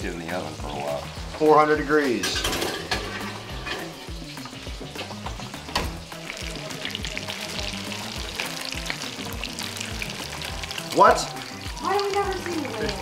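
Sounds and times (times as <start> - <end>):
background music with beat: 0.0 - 13.0
fish frying in oil: 0.0 - 13.0.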